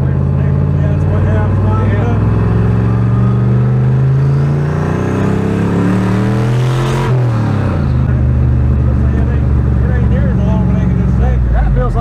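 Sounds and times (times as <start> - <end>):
truck engine accelerating: 0.0 - 12.0
turbo rush at gear change: 0.0 - 12.0.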